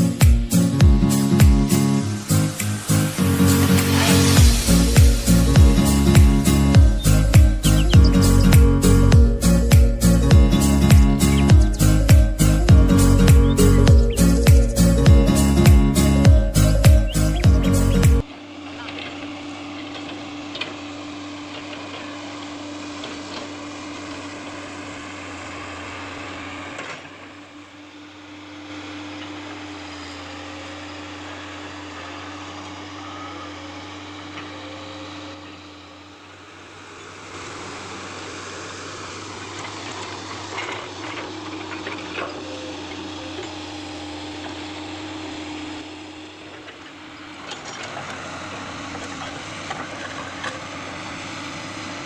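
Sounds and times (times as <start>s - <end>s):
excavator diesel engine droning: 0.0s - 52.0s.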